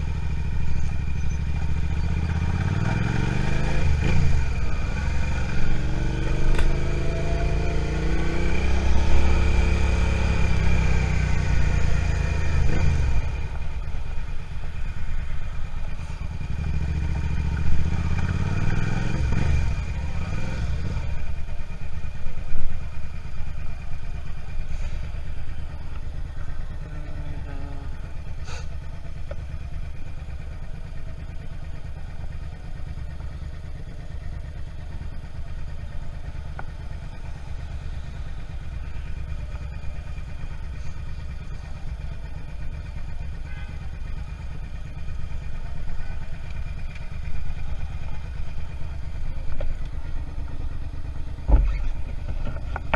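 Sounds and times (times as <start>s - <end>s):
motorcycle engine: 0.0s - 52.9s.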